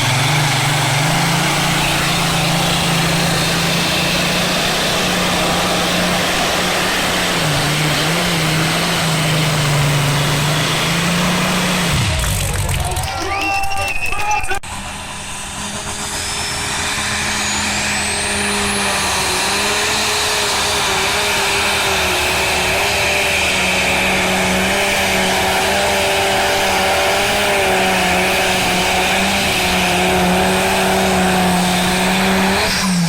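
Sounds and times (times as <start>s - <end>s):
engine revving high: 0.0s - 13.1s, 14.9s - 33.0s
high engine whine: 0.0s - 33.0s.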